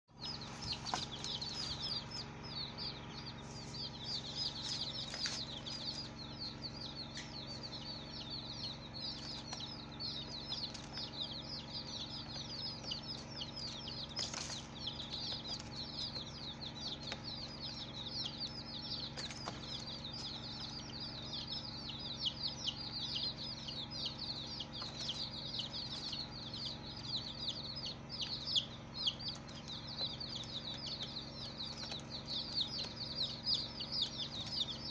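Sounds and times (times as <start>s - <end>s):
baby chicks peeping: 0.1s - 34.9s
steady low hum: 0.1s - 34.9s.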